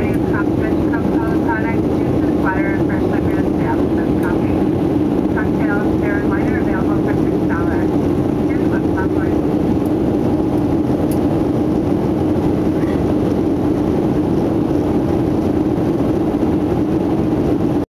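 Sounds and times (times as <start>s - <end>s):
constant low hum: 0.0s - 17.8s
jet engines droning: 0.0s - 17.8s.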